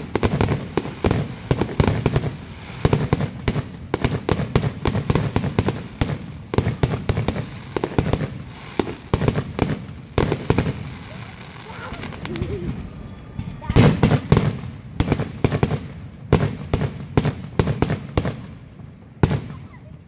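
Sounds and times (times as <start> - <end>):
fireworks bursting: 0.0 - 20.0
fireworks crackling: 0.0 - 20.0.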